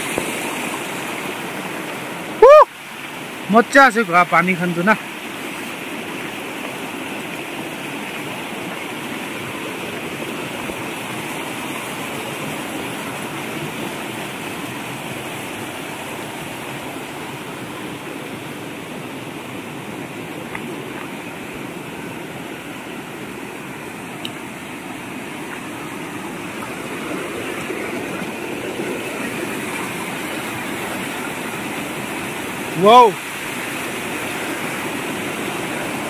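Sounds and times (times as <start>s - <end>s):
stream rushing over stones: 0.0s - 36.0s.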